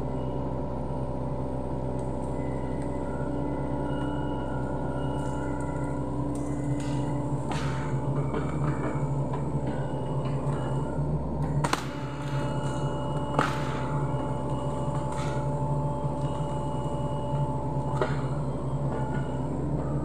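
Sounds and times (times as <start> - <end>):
excavator diesel engine running: 0.0 - 20.0
hydraulic whine: 0.0 - 20.0.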